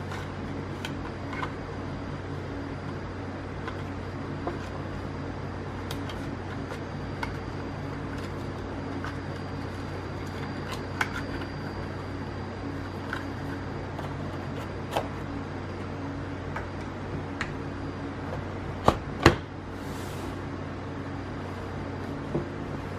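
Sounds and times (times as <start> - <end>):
steady hum: 0.0 - 22.9.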